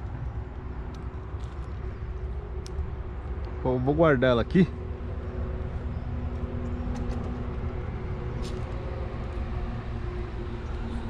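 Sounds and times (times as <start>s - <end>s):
distant vehicle engine drone: 0.0s - 11.0s.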